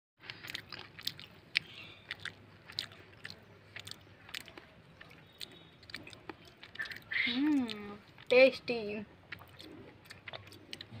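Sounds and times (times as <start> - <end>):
chewing: 0.2 - 11.0.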